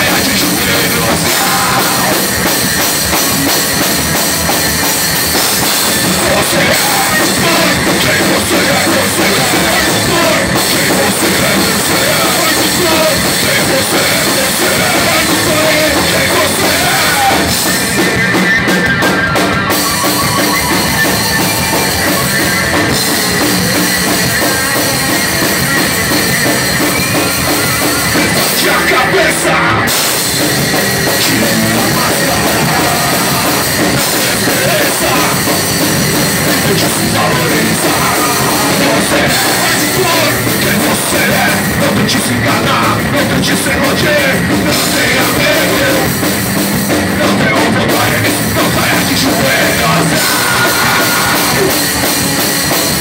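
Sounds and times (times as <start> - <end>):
drum kit: 0.0 - 53.0
electric guitars: 0.0 - 53.0.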